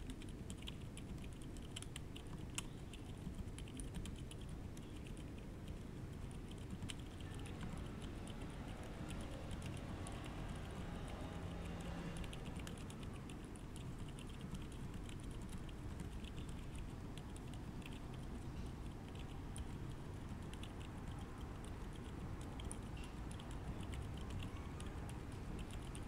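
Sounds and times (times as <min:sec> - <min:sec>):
low background hum: 0:00.0 - 0:26.0
quiet keyboard typing: 0:00.0 - 0:26.0.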